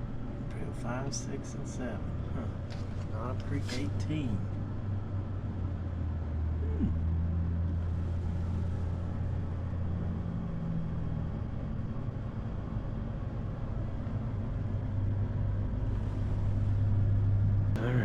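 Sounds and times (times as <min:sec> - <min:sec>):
low rumbling hum: 0:00.0 - 0:18.0.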